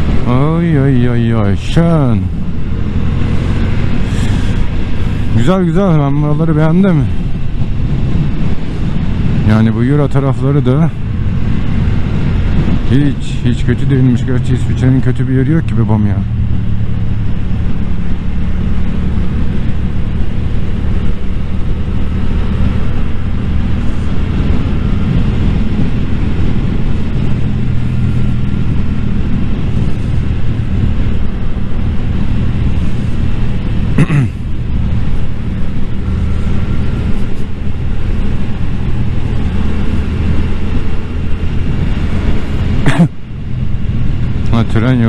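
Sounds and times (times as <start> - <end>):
motorcycle engine cruising: 0.0 - 45.0
wind rush on microphone: 0.0 - 45.0.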